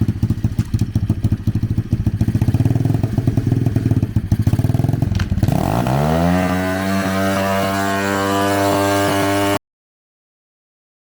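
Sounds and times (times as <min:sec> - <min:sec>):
dirt bike engine chugging: 0:00.0 - 0:09.6.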